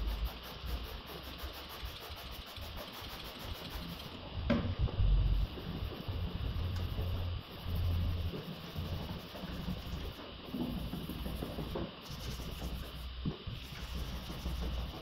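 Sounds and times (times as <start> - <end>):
steady low hum and hiss: 0.0 - 15.0.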